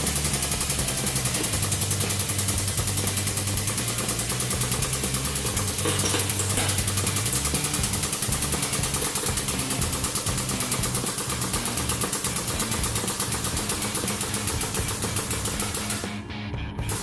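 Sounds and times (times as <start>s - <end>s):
hydraulic pump pulsing: 0.0s - 16.2s.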